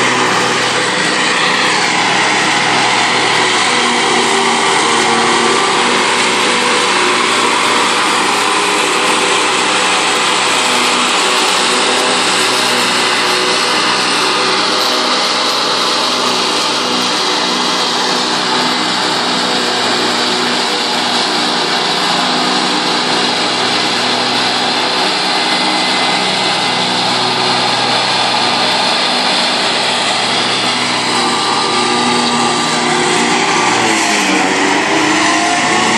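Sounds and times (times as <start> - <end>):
mower blades cutting grass: 0.0 - 35.9
tractor engine running: 0.0 - 35.9.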